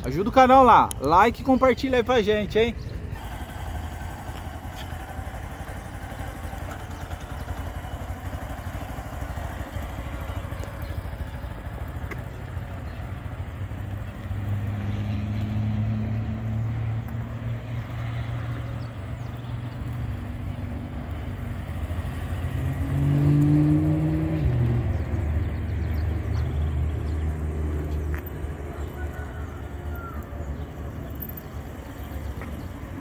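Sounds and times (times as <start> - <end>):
motorcycle engine humming: 0.0 - 33.0.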